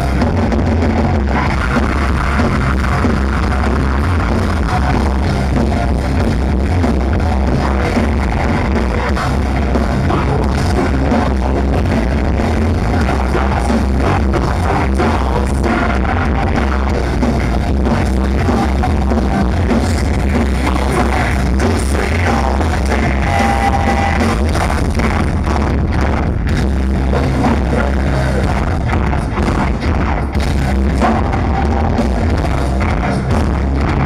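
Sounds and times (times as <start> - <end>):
vocalists singing: 0.0 - 26.4, 27.0 - 34.0
metalcore band playing: 0.0 - 34.0.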